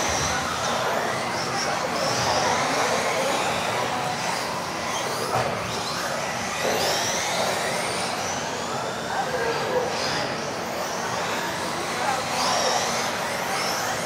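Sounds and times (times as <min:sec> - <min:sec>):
rc car electric motors whining: 0:00.0 - 0:14.0.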